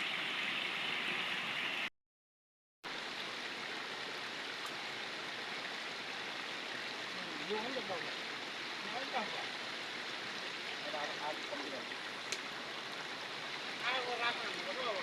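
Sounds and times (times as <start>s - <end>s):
stream water flowing: 0.0s - 1.9s, 2.9s - 15.0s.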